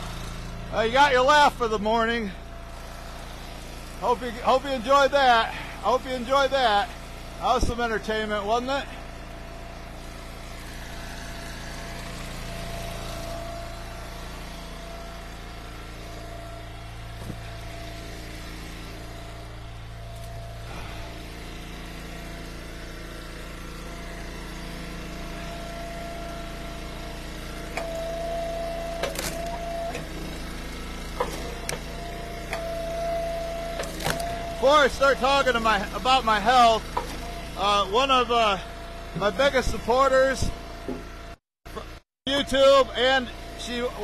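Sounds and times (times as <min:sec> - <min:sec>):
small gasoline engine running: 0:00.0 - 0:44.0.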